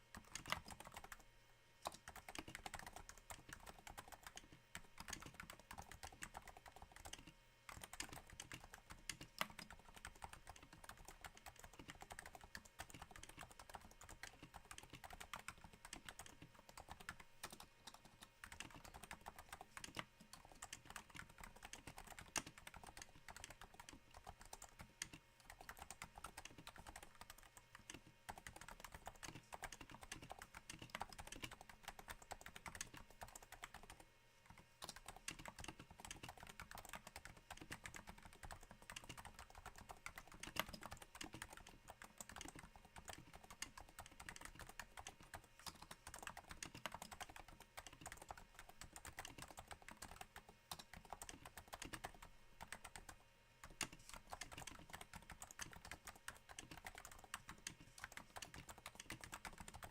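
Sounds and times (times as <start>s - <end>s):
soft keyboard typing: 0.0s - 59.9s.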